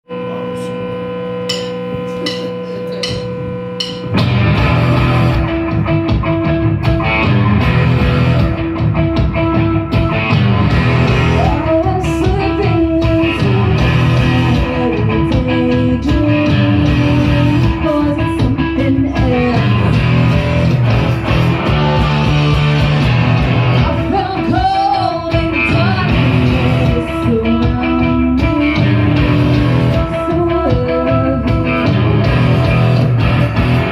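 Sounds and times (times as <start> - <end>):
held guitar tones: 0.1 - 33.9
rock band playing: 1.5 - 33.9.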